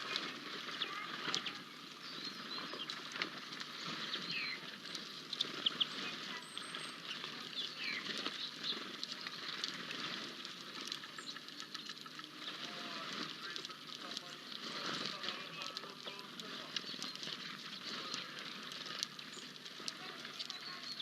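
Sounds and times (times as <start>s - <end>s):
birds chirping: 0.0s - 21.0s
wings fluttering: 0.0s - 21.0s.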